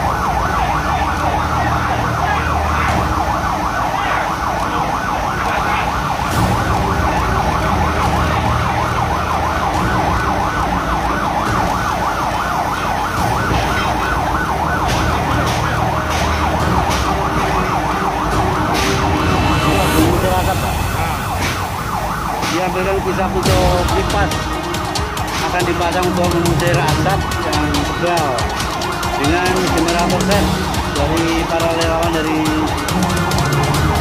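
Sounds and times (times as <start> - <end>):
fire engine siren warbling: 0.0 - 34.0.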